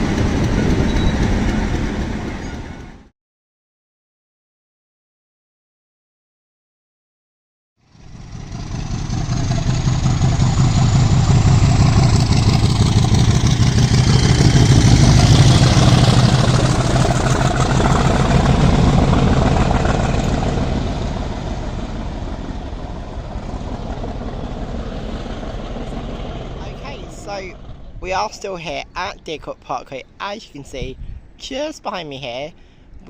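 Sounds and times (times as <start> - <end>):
train passing: 0.0 - 3.1, 7.9 - 32.6.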